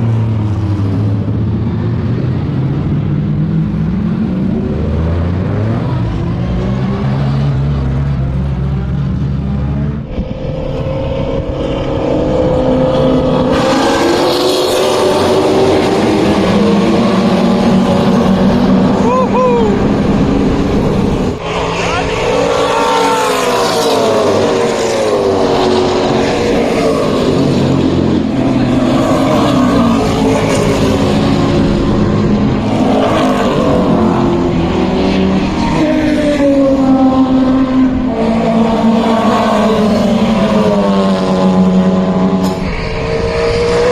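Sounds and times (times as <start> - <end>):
racing car engine revving: 0.0 - 43.9.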